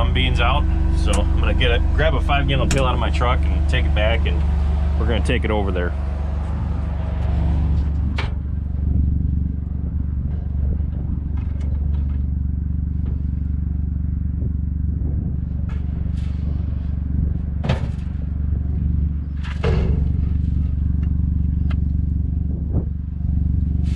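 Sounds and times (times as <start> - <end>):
vehicle engine humming: 0.0 - 23.9.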